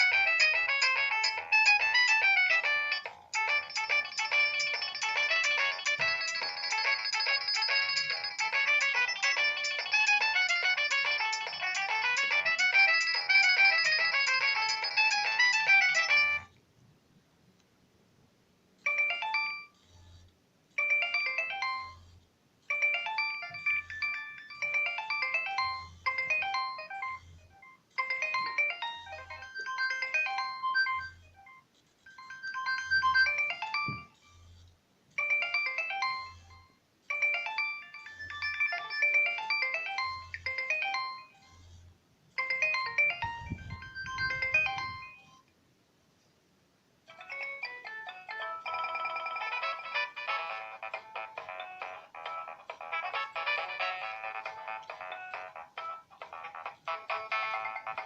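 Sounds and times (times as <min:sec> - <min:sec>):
electronic ringtone tune: 0:00.0 - 0:16.5, 0:18.8 - 0:20.0, 0:20.8 - 0:22.1, 0:22.7 - 0:34.4, 0:35.2 - 0:41.8, 0:42.4 - 0:45.5, 0:47.1 - 0:58.0.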